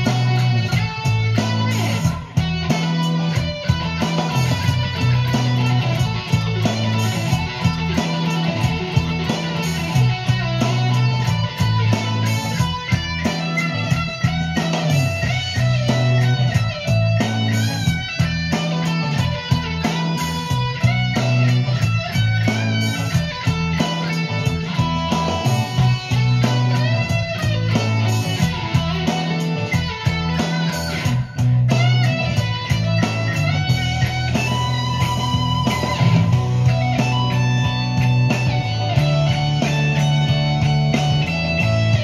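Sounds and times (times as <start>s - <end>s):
electric guitar boogie: 0.0s - 42.0s.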